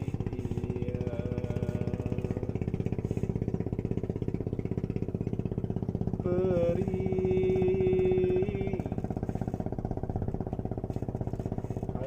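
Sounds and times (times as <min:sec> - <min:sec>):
rapid throbbing engine-like noise: 0:00.0 - 0:12.0.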